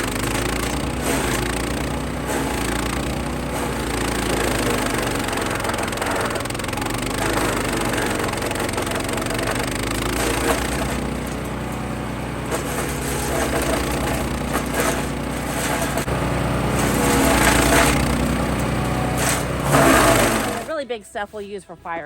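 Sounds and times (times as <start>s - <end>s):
wood cracking and splintering: 0.0s - 11.8s, 12.4s - 20.7s
wood chipper engine running: 0.0s - 20.9s.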